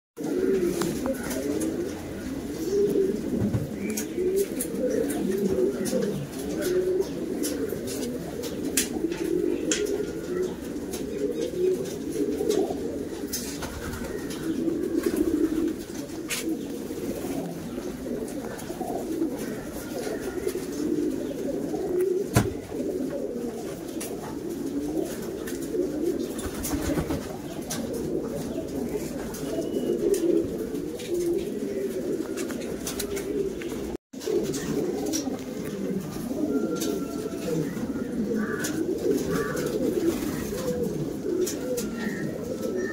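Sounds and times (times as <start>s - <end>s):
pigeons cooing: 0.2s - 42.9s.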